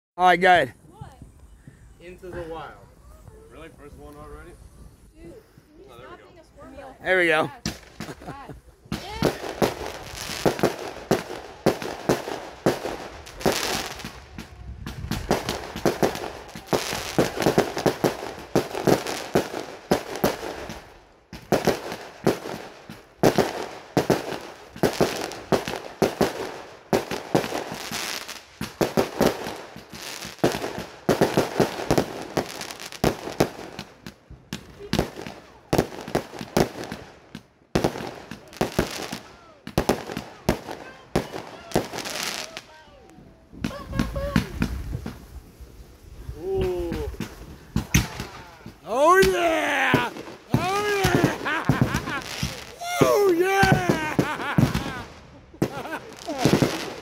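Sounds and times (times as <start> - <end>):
firework bursts crackling: 6.6 - 42.8, 43.5 - 57.0.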